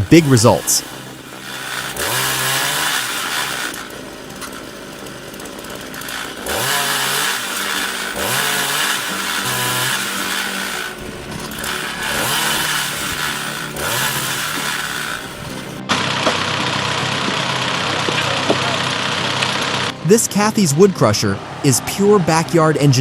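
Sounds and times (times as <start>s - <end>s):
gas saw engine revving: 0.0s - 23.0s.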